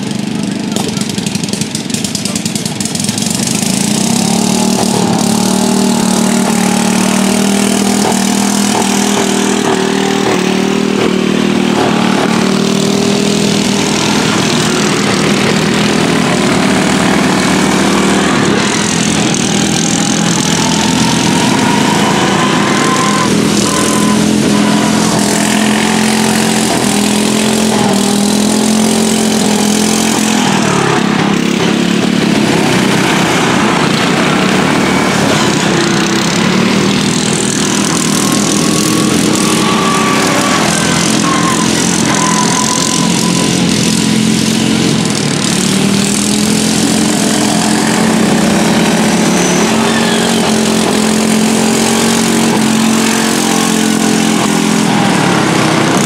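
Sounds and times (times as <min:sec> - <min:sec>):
engine revving: 0:00.0 - 0:56.0
small engines droning: 0:00.0 - 0:56.0.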